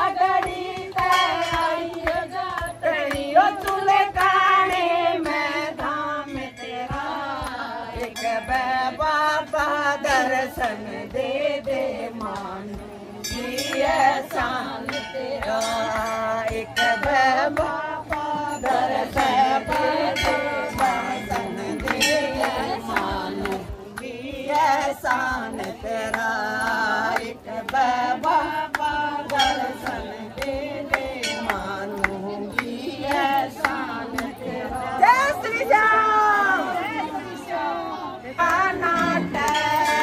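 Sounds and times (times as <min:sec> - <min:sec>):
hand claps keeping time: 0:00.0 - 0:40.0
voices singing devotional song: 0:00.0 - 0:40.0.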